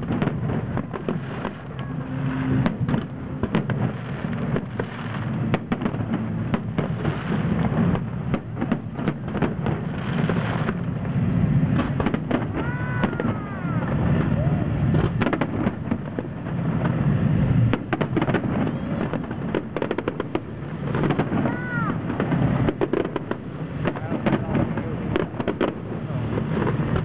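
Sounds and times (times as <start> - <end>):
firework bangs: 0.0 - 27.0
firework rumble and crackle: 0.0 - 27.0.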